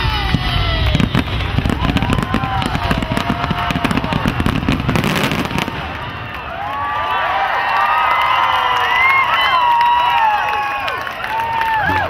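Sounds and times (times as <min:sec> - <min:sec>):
crowd cheering: 0:00.0 - 0:12.0
fireworks crackling and popping: 0:00.0 - 0:12.0.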